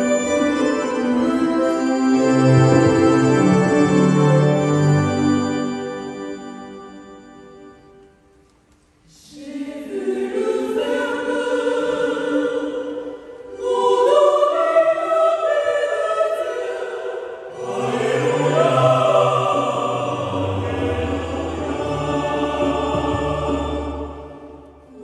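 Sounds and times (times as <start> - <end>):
choir singing a hymn: 0.0 - 6.3, 9.1 - 25.0.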